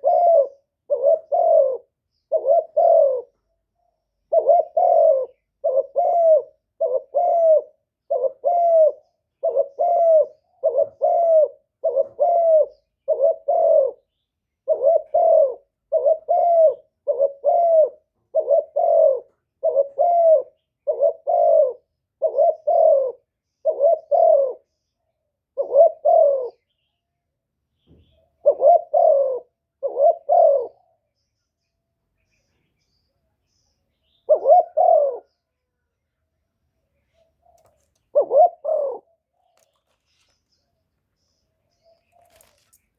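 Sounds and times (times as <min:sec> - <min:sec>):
dove cooing: 0:00.0 - 0:26.6, 0:28.0 - 0:31.1, 0:34.1 - 0:35.5, 0:37.1 - 0:40.6, 0:41.7 - 0:42.8.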